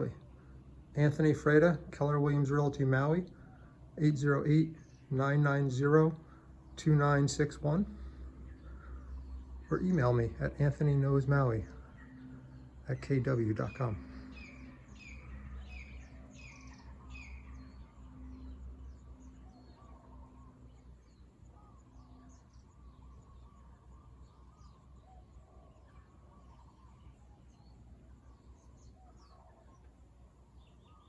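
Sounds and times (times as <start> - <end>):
birds chirping: 0.0 - 31.0
faint low background noise: 0.0 - 31.0.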